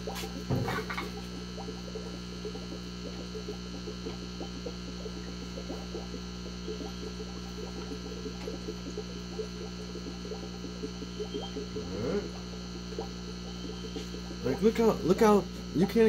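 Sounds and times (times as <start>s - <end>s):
aquarium air pump humming: 0.0s - 16.0s.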